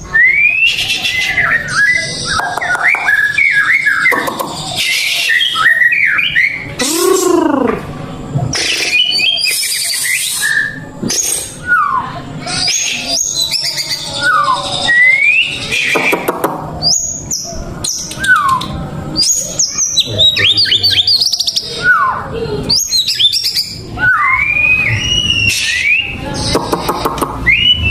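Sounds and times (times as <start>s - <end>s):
bird singing whistles: 0.0s - 7.1s, 8.6s - 27.9s.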